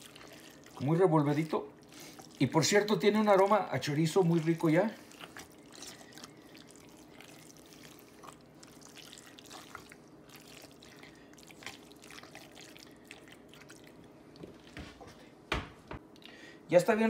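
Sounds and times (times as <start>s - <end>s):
spoon stirring wet meat: 0.0s - 14.8s.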